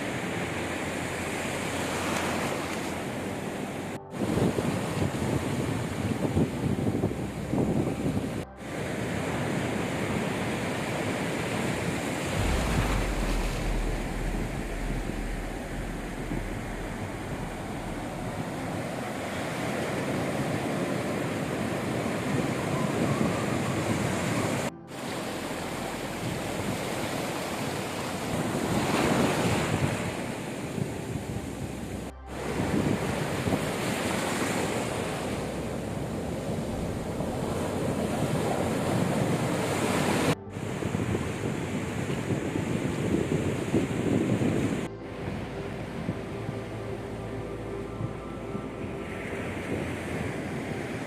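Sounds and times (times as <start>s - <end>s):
sea waves breaking on beach: 0.0s - 6.5s, 8.6s - 44.9s
wind buffeting microphone: 1.3s - 51.0s.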